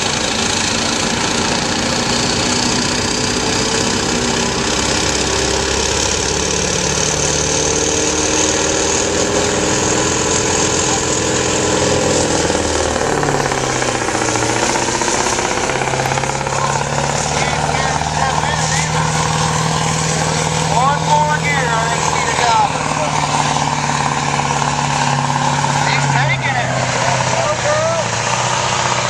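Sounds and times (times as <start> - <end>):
diesel truck engine under load: 0.0 - 29.0.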